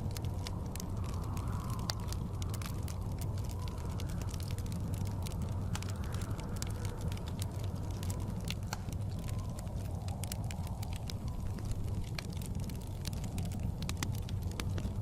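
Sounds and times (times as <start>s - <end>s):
fireplace crackling and popping: 0.0s - 15.0s
howling blizzard wind: 0.0s - 15.0s.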